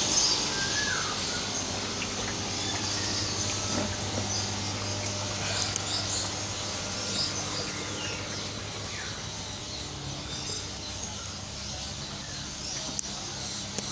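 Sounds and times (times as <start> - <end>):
songbirds chirping and calling: 0.0 - 13.9
steady low hum: 0.0 - 13.9.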